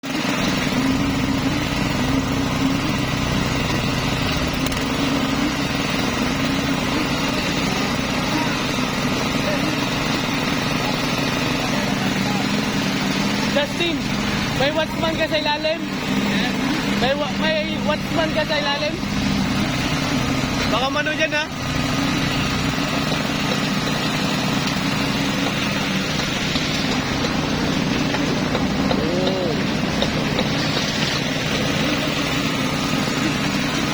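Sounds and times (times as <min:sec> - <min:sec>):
machinery engines droning: 0:00.0 - 0:33.9.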